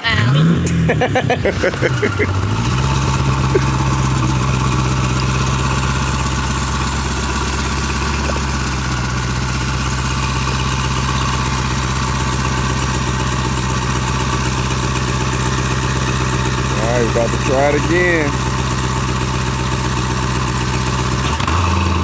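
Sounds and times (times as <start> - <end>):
v eight engine idling loud: 0.0 - 22.0.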